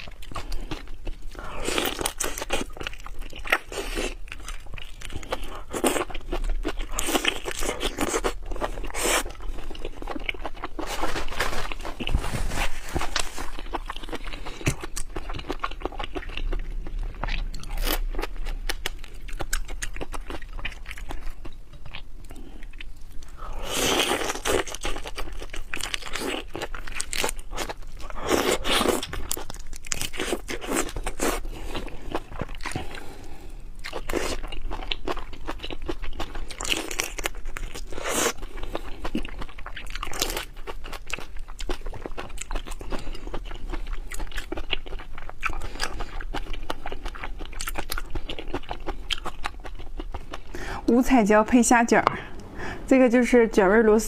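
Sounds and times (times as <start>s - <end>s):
crunching and chewing food: 0.0s - 51.0s.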